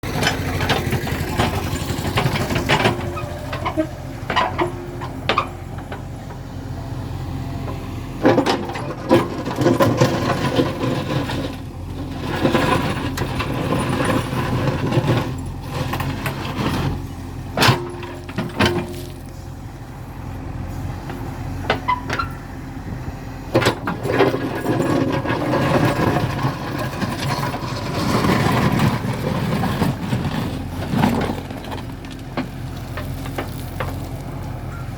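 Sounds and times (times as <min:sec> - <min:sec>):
bucket clanking and scraping: 0:00.0 - 0:06.8, 0:07.6 - 0:19.5, 0:20.7 - 0:22.5, 0:23.5 - 0:34.8
diesel engine under load: 0:00.0 - 0:34.9.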